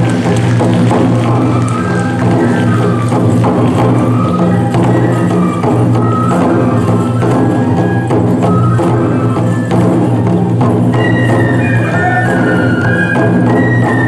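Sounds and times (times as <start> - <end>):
bamboo flutes playing melody: 0.0 - 14.0
taiko drums beating: 0.0 - 14.0.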